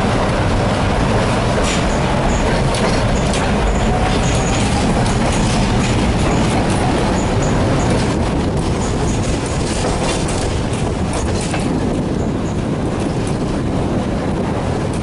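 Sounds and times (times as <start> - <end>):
tram wheels rumbling on rails: 0.0 - 15.0
wheels clacking over rail joints: 0.0 - 15.0.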